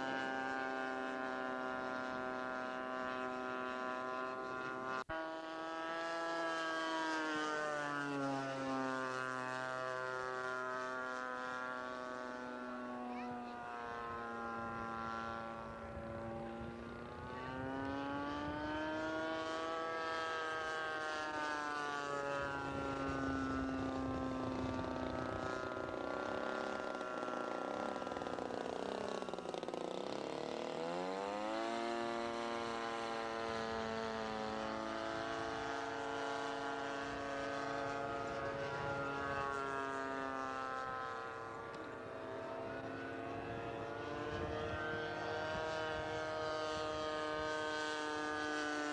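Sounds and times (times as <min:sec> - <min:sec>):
model airplane engine drone: 0:00.0 - 0:48.9.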